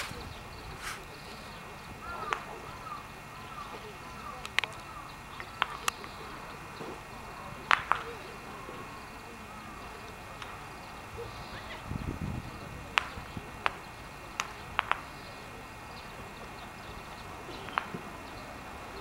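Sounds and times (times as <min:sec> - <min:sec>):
faint background hum: 0:00.0 - 0:19.0.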